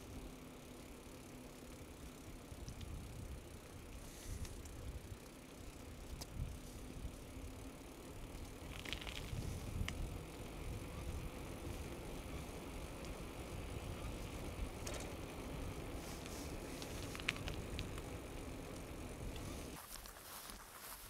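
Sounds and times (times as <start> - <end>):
bicycle riding rumble: 0.0 - 21.0
bike clicks and rattle: 0.0 - 21.0.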